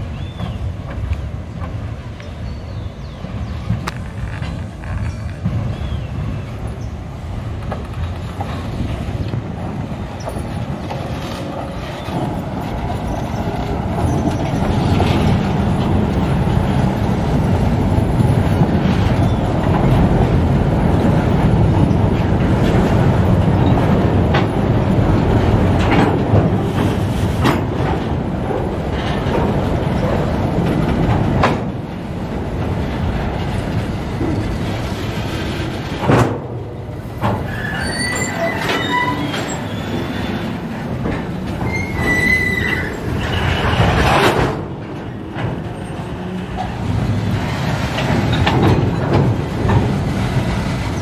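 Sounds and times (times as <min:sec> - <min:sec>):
train wheels rumbling on rail: 0:00.0 - 0:51.0
wheels clacking: 0:00.0 - 0:51.0.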